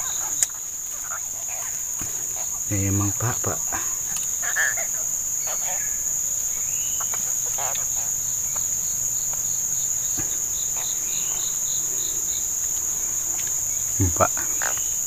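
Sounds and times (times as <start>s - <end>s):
evenly pulsing insect call: 0.0s - 15.0s
faint chirps: 0.0s - 15.0s
insects chorus: 0.0s - 15.0s.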